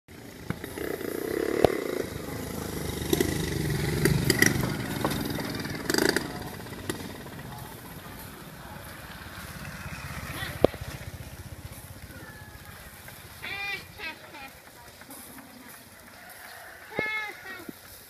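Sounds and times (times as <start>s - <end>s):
engine passing by: 0.1s - 18.0s.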